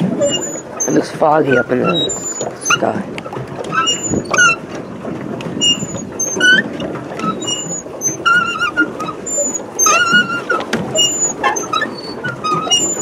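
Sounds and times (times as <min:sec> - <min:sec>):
lapping water: 0:00.0 - 0:13.0
paddle wheel churning: 0:00.0 - 0:13.0
pedal crank squeaking: 0:00.2 - 0:03.0, 0:03.7 - 0:04.7, 0:05.6 - 0:13.0.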